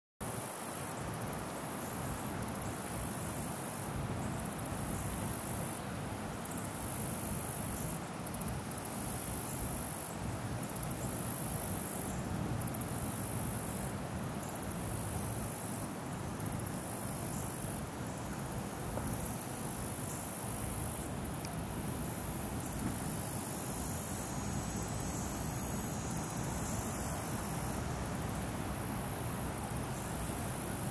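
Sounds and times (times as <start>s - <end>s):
insects trilling: 0.2s - 30.9s
low background hiss: 0.2s - 30.9s.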